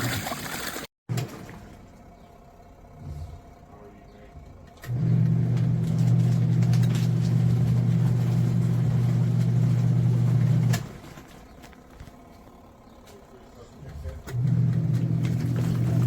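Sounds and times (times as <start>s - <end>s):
washing machine motor humming: 1.1s - 16.0s.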